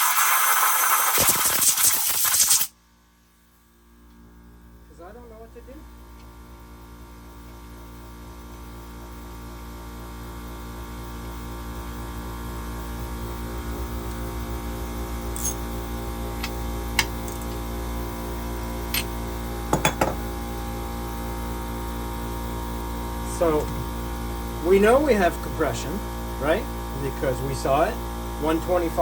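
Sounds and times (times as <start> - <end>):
electrical hum: 1.3 - 29.0.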